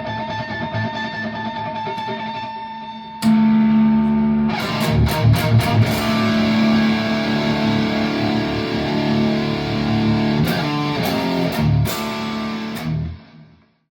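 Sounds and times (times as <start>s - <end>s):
distorted electric guitar lead: 0.0s - 13.7s.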